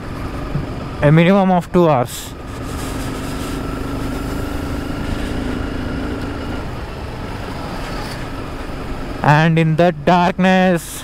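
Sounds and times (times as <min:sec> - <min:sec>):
motorcycle engine running: 0:00.0 - 0:10.7
wind and road noise: 0:00.0 - 0:11.0.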